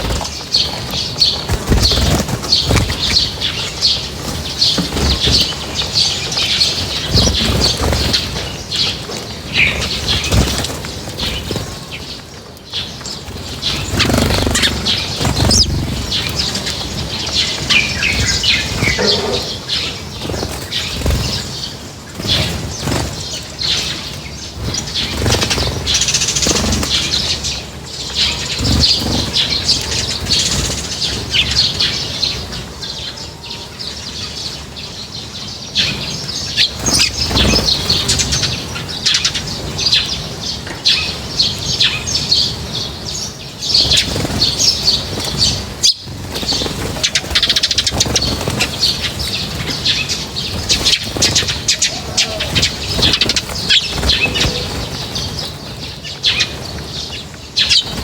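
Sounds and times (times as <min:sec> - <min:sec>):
wings fluttering: 0:00.0 - 0:33.3, 0:35.8 - 0:43.0, 0:43.6 - 0:58.0
small birds chirping: 0:00.0 - 0:58.0.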